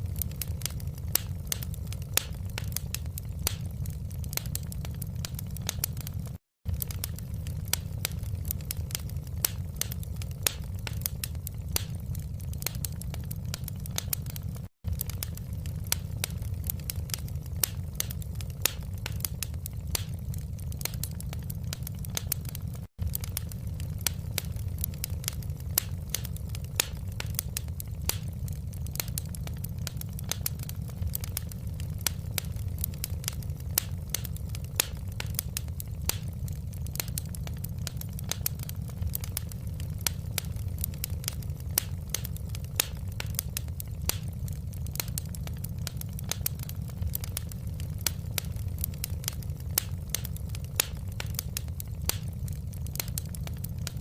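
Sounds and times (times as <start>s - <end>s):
fire pops and snaps: 0.0s - 54.0s
low rumble of flames: 0.0s - 54.0s.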